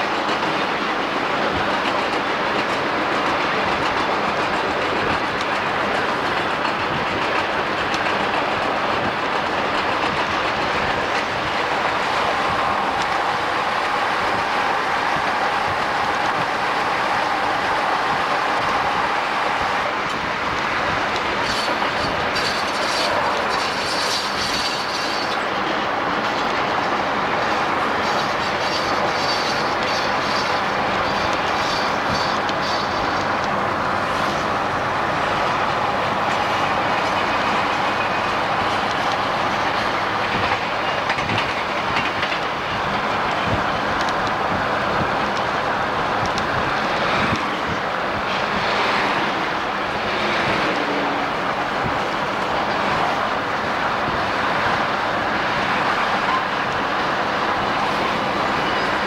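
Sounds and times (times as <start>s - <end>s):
train wheels on track: 0.0s - 59.0s.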